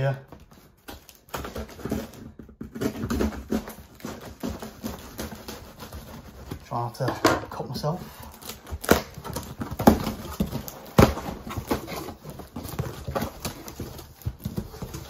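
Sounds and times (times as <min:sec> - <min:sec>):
cardboard box being opened: 0:00.4 - 0:06.9, 0:07.8 - 0:15.0.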